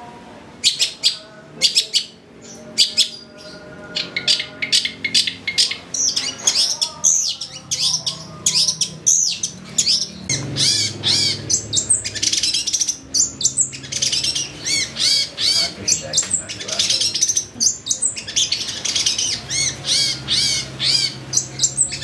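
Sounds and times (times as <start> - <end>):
bird singing chattering whistles: 4.1 - 22.0.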